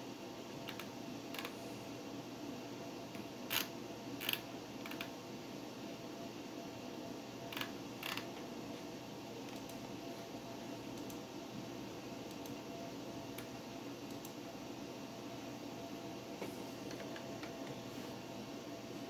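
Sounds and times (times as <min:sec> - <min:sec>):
computer fans humming: 0:00.0 - 0:19.0.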